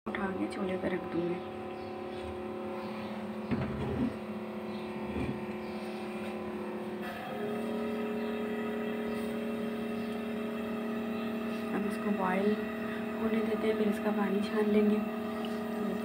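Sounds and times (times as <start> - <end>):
machine hum: 0.1 - 16.0.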